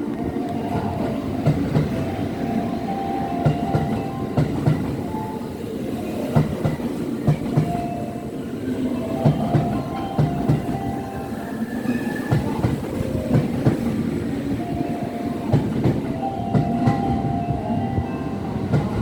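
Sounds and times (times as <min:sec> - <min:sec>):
electric train rolling on track: 0:00.0 - 0:19.0.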